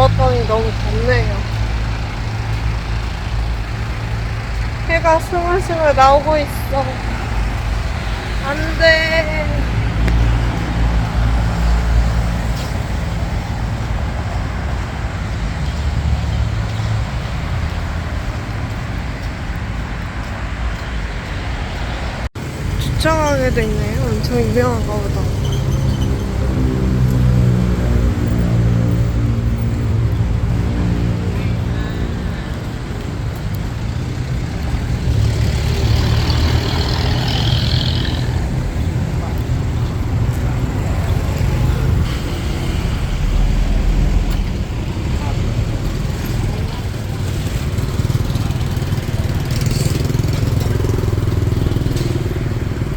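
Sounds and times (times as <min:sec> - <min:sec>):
traffic rumble: 0:00.0 - 0:52.9
vehicle passing: 0:00.0 - 0:52.9.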